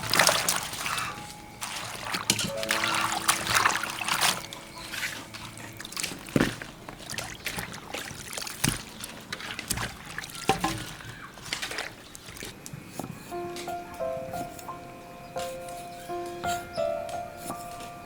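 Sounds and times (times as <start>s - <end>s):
water trickling and sloshing: 0.0s - 18.0s.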